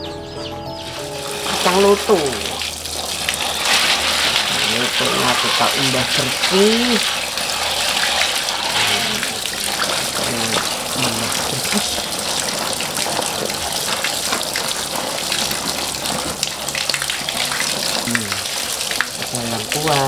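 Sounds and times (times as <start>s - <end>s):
hose water pouring and splashing: 1.1s - 20.0s.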